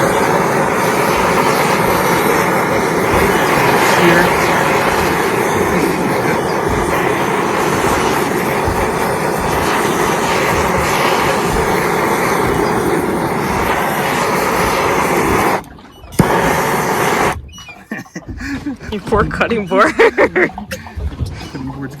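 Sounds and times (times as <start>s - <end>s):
torch burning with loud roar: 0.0s - 18.0s.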